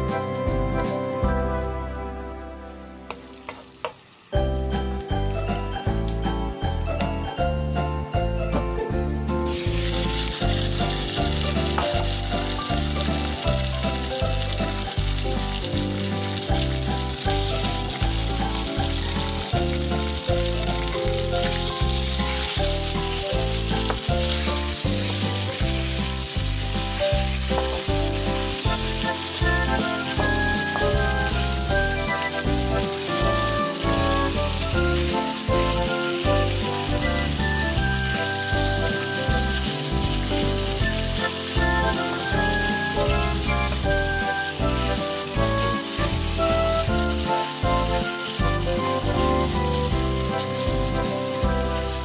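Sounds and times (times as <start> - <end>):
background music with steady beat: 0.0 - 3.6, 4.4 - 52.0
meat sizzling in hot oil: 0.0 - 52.0
wooden spatula stirring: 9.5 - 52.0.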